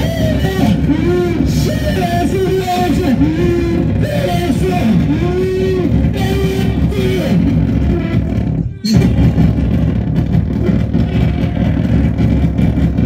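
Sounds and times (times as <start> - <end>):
swooping pitched tones: 0.0 - 12.4
distorted low rumble: 0.0 - 13.0.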